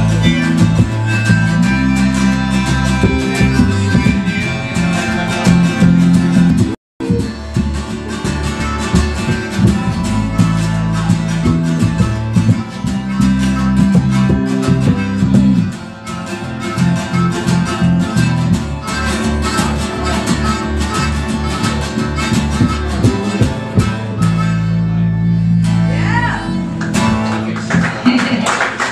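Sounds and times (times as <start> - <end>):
harmonica playing: 0.0 - 27.4
acoustic guitar strumming: 0.0 - 28.9.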